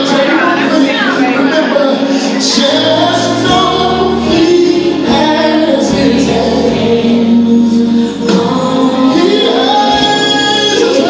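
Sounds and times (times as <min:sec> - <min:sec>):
gospel song over loudspeaker: 0:00.0 - 0:11.0
instrumental backing: 0:00.0 - 0:11.0.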